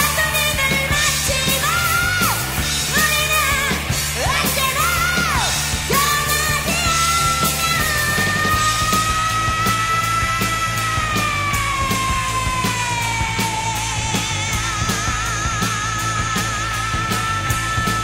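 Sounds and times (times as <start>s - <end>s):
heavy metal band playing: 0.0s - 18.0s
high wailing lead: 0.0s - 18.0s.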